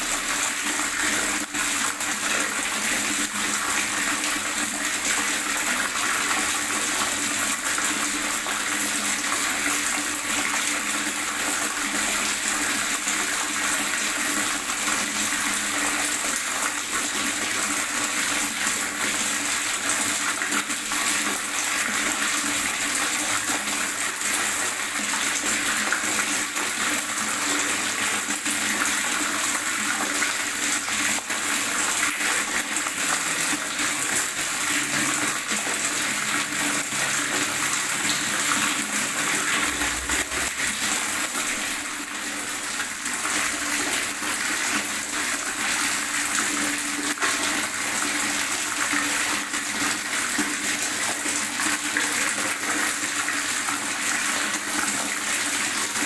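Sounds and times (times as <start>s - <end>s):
water gurgling and splashing: 0.0s - 56.0s.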